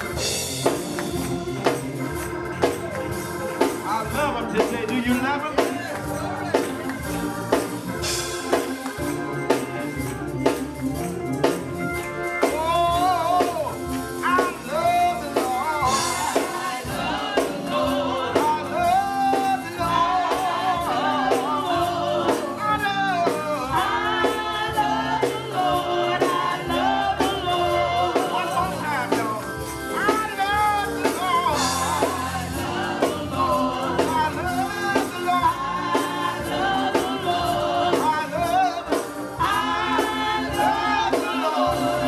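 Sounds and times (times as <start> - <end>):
church band playing: 0.0 - 42.0.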